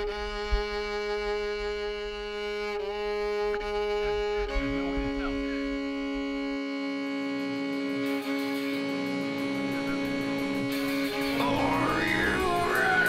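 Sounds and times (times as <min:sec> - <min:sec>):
slow string chords: 0:00.0 - 0:13.0.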